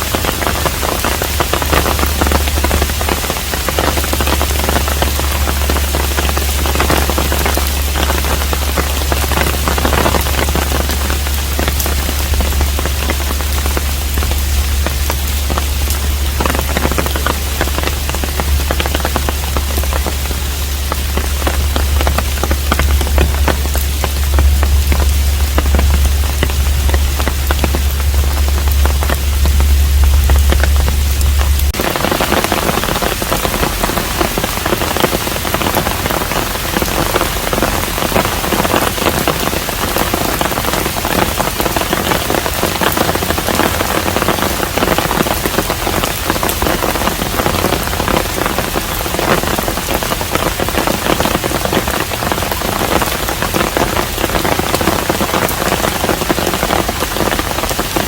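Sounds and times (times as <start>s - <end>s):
low hum: 0.0s - 55.9s
steady rain falling: 0.0s - 58.0s.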